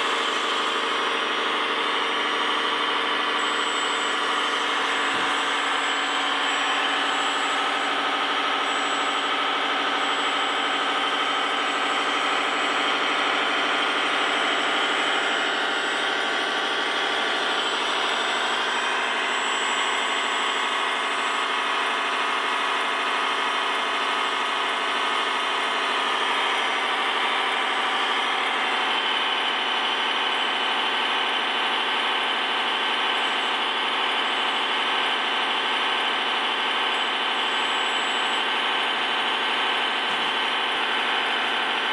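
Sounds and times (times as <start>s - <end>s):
diesel engine sound module: 0.0s - 41.9s.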